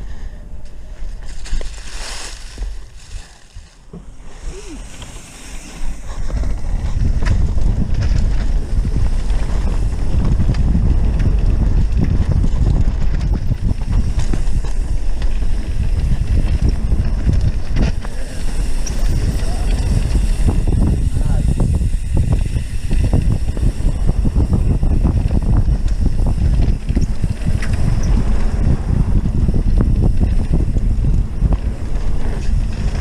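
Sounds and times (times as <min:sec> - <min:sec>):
wind buffeting microphone: 0:00.0 - 0:33.0
bike clicks: 0:00.4 - 0:33.0
mountain bike rattling on dirt trail: 0:00.7 - 0:33.0.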